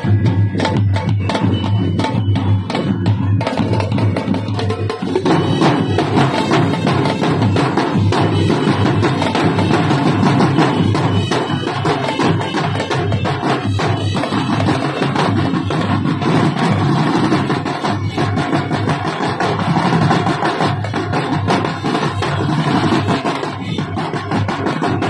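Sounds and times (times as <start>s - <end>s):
marching drumline playing: 0.0s - 25.0s.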